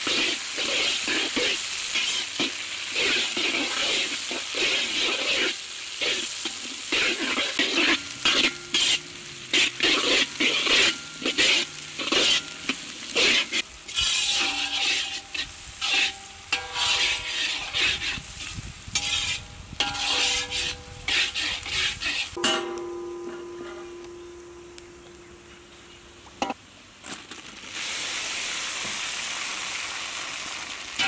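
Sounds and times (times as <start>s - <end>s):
onions sizzling in hot oil: 0.0s - 23.2s, 27.2s - 31.0s
metal ladle scraping pan: 0.0s - 25.7s.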